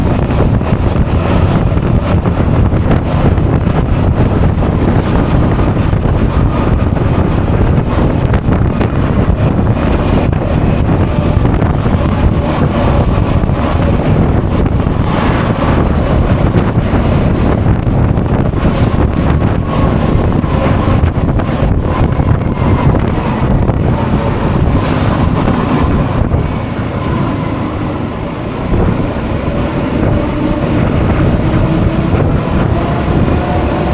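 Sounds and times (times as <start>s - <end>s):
scooter engine humming: 0.0s - 33.9s
wind rushing over microphone: 0.0s - 33.9s.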